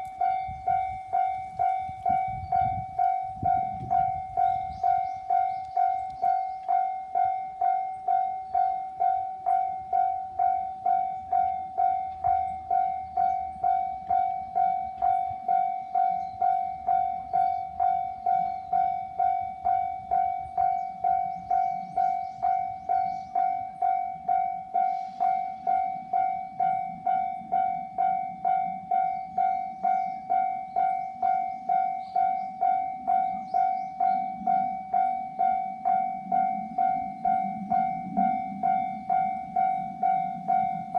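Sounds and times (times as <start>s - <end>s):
approaching train rumble: 0.0s - 40.9s
level-crossing bell ringing: 0.0s - 40.9s.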